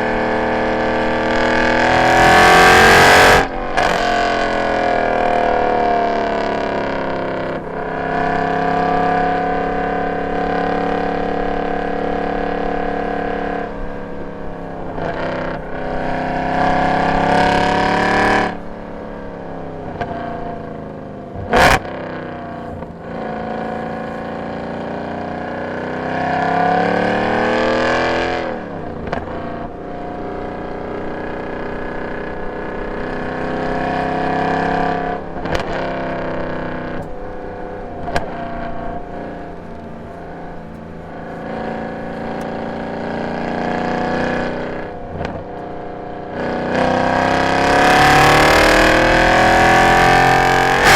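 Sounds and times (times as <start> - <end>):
car engine accelerating hard: 0.0 - 50.9.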